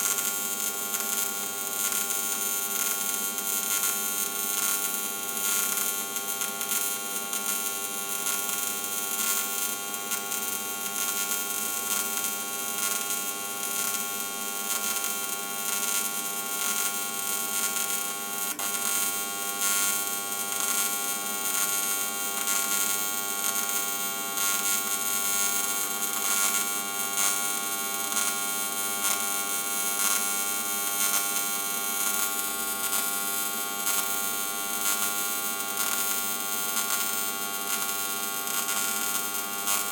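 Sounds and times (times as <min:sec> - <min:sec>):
welding arc buzzing and hissing: 0:00.0 - 0:39.9.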